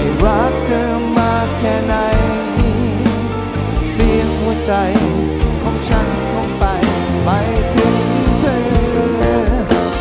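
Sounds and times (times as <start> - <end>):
bending lead guitar melody: 0.0 - 10.0
live band playing slow rock: 0.0 - 10.0.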